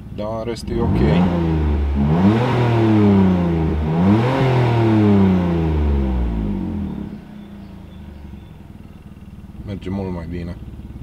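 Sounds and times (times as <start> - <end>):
car engine revving: 0.4 - 9.9.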